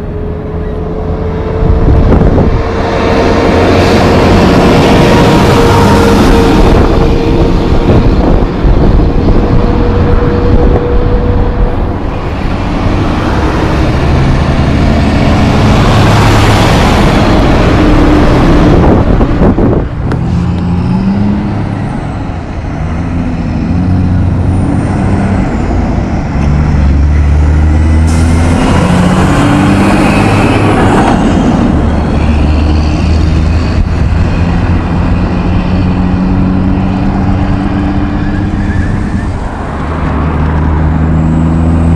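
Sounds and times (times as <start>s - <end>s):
heavy truck engines running: 0.0s - 41.9s.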